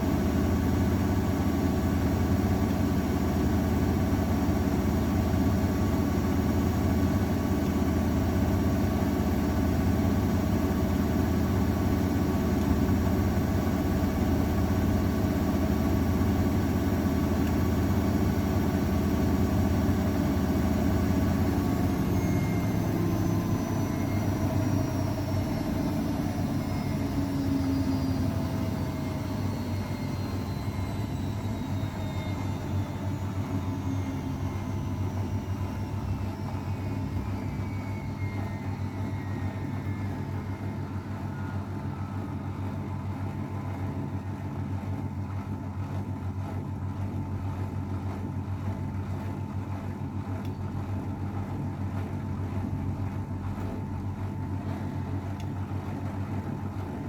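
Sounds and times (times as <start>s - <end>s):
washing machine spin slowing: 0.0s - 57.0s.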